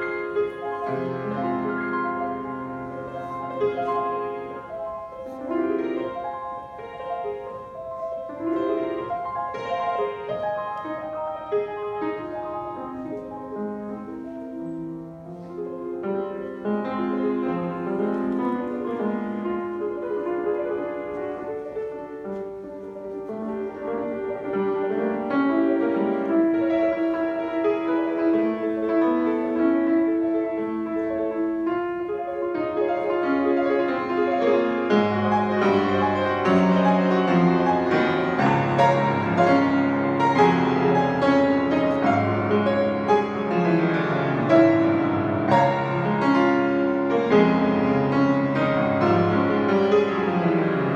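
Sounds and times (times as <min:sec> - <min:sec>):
grand piano piece: 0:00.0 - 0:50.9.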